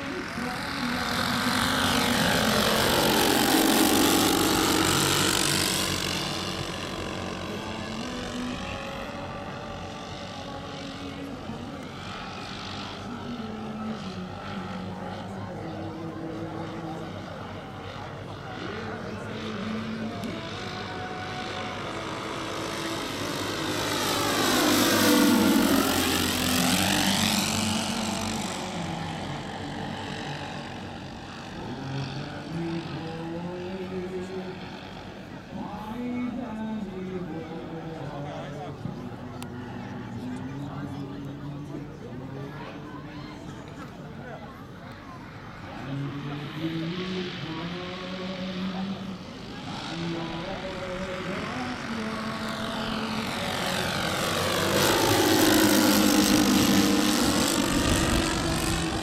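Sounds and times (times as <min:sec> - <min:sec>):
model plane propeller drone: 0:00.0 - 0:59.0.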